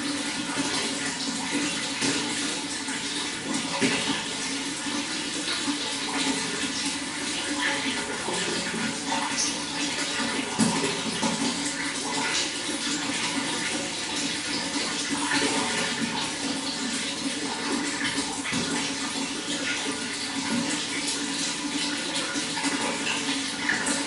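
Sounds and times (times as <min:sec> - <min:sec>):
running water splashing: 0:00.0 - 0:24.0.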